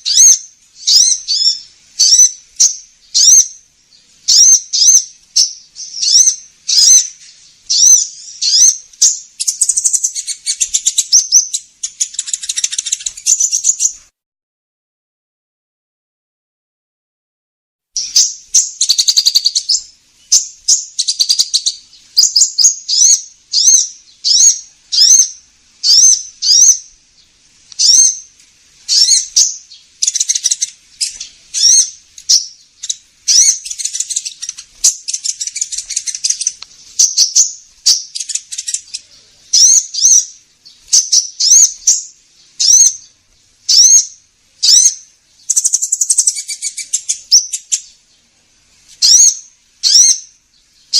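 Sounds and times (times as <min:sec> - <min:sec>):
sunbird calling: 0:00.0 - 0:14.1, 0:18.0 - 0:48.3, 0:48.9 - 0:50.9.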